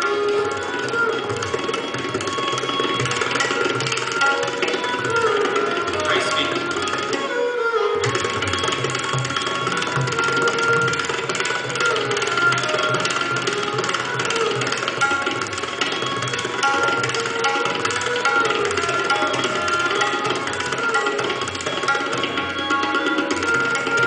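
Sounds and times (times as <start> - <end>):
fast tabla drumming: 0.0 - 24.0.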